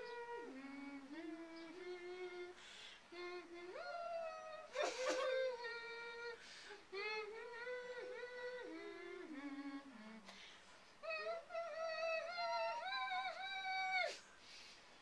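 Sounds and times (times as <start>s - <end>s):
woman humming: 0.0s - 10.3s, 11.0s - 14.2s.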